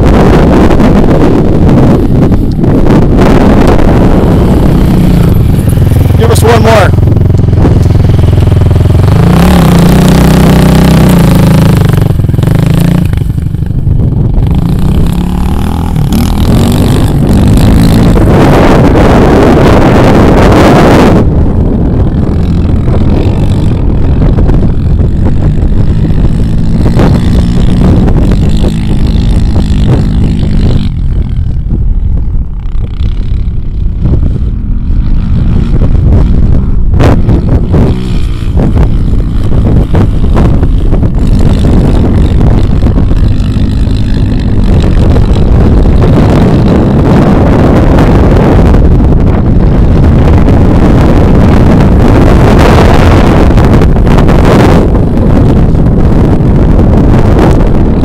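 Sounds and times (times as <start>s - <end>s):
off-road vehicle engine running: 0.0s - 58.0s
wind buffeting microphone: 0.0s - 58.0s.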